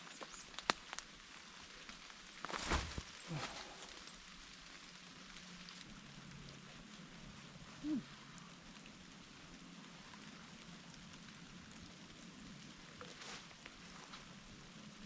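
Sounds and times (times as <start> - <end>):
light rain pattering: 0.0 - 15.0.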